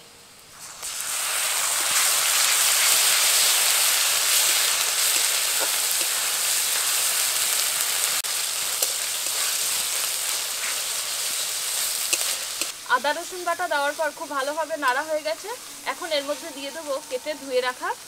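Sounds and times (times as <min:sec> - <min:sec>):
paste sizzling in hot oil: 0:00.4 - 0:18.0.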